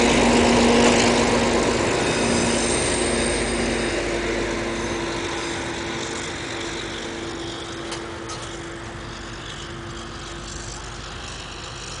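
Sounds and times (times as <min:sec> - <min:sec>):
diesel locomotive hum: 0:00.0 - 0:12.0
freight train rumbling: 0:00.0 - 0:12.0.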